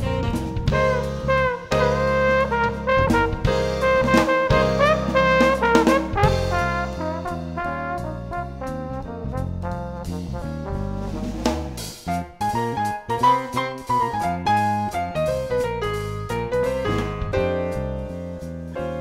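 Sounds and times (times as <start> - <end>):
brass-led tune with bass and drums: 0.0 - 19.0.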